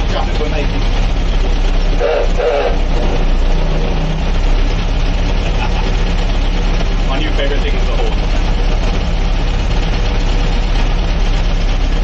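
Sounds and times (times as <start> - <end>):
lorry engine running at low speed: 0.0 - 12.0.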